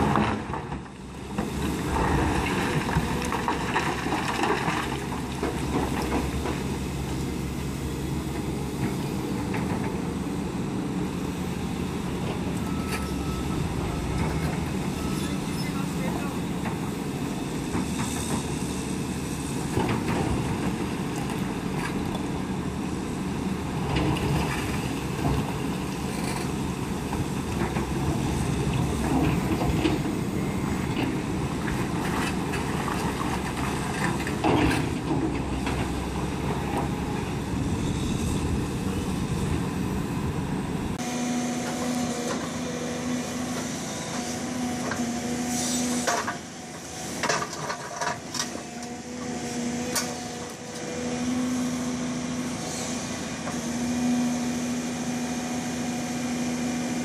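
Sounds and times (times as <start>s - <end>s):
excavator engines and hydraulics: 0.0s - 57.0s.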